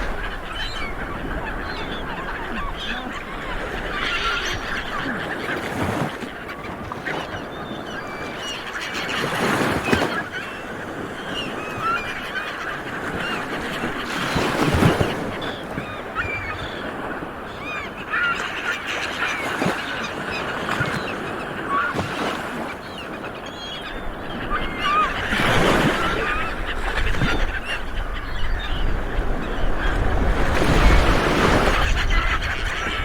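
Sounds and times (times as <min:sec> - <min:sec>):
seabirds squawking: 0:00.0 - 0:33.0.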